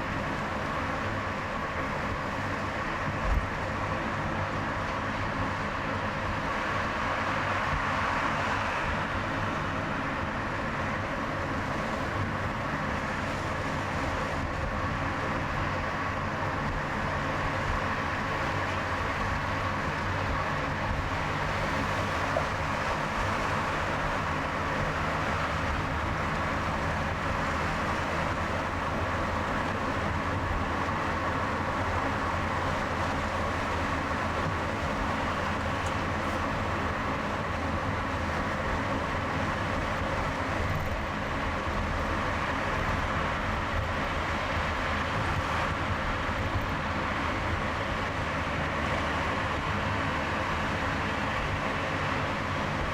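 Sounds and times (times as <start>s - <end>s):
car tyre and engine noise: 0.0s - 52.9s.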